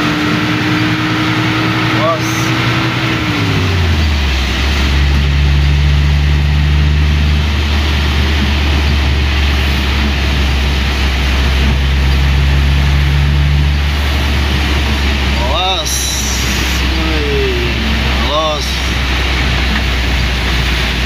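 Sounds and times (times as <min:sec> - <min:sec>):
car engine droning: 0:00.0 - 0:21.0
rain: 0:00.0 - 0:21.0
tyres hissing on wet road: 0:00.0 - 0:21.0.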